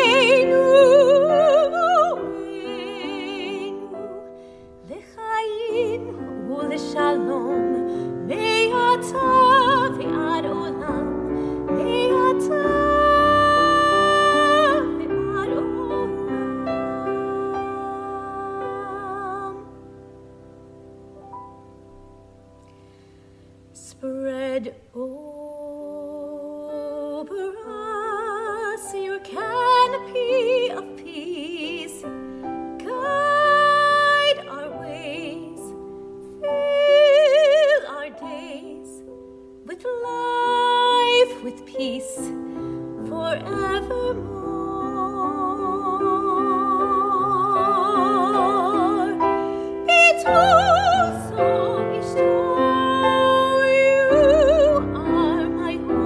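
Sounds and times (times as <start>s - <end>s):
woman singing with vibrato: 0.0s - 20.0s, 23.8s - 56.0s
piano chords: 0.0s - 24.7s, 25.6s - 56.0s.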